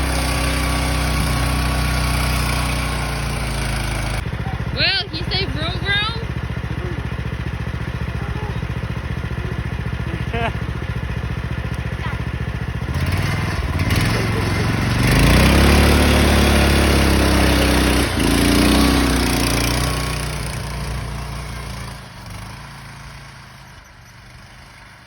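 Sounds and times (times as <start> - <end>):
go-kart engine revving: 0.0 - 25.0.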